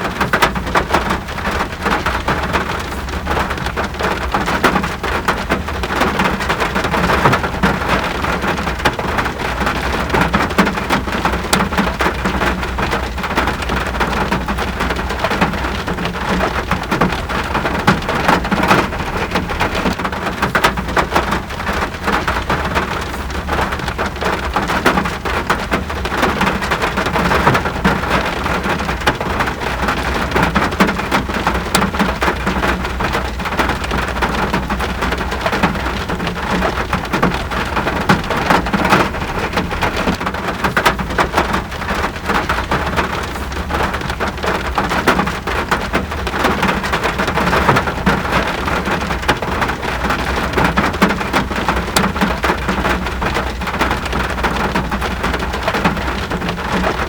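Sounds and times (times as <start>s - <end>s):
rain patter: 0.0s - 57.0s.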